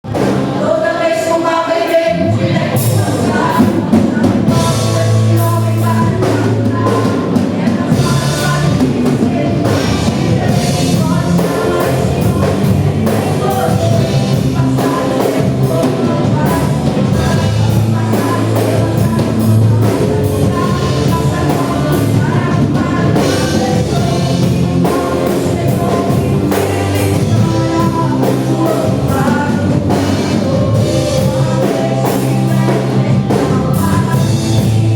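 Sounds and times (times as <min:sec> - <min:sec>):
band playing: 0:00.0 - 0:34.9
drum kit beat: 0:00.0 - 0:34.9
people singing gospel song: 0:00.1 - 0:34.9.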